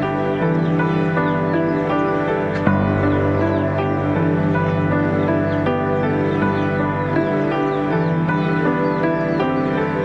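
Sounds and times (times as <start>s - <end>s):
soft new-age chords: 0.0s - 10.0s.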